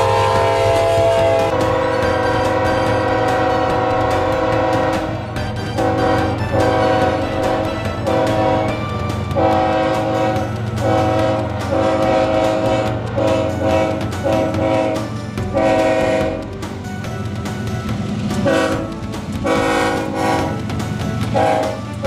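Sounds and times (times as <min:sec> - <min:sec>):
locomotive air horn blasts: 0:00.0 - 0:16.5, 0:18.4 - 0:20.7, 0:21.3 - 0:22.0.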